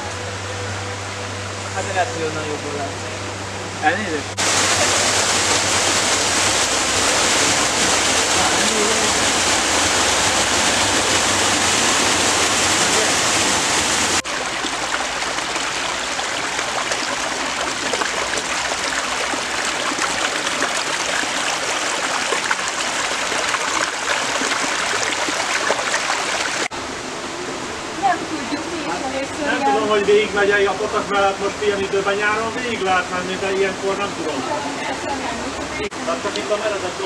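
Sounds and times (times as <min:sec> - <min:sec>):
stream babbling with splashes: 0:00.0 - 0:37.0
waterfall rushing over rocks: 0:03.9 - 0:37.0.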